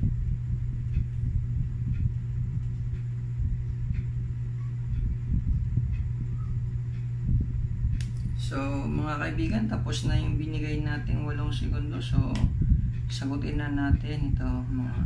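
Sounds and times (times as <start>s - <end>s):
low rumble: 0.0s - 15.0s
steady low hum: 0.0s - 15.0s.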